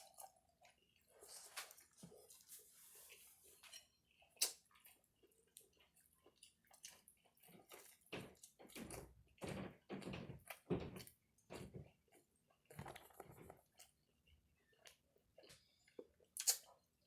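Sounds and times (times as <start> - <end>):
close chewing with wet smacks: 0.0 - 2.5, 3.1 - 17.0.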